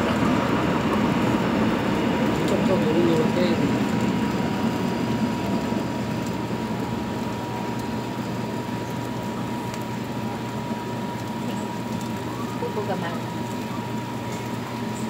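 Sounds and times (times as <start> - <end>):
faint constant whine: 0.0 - 15.0
food frying in pans: 0.0 - 15.0.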